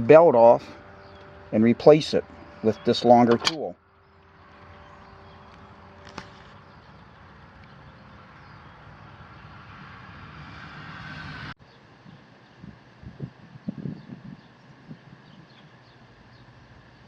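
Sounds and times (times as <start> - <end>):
distant engine: 0.0 - 17.0.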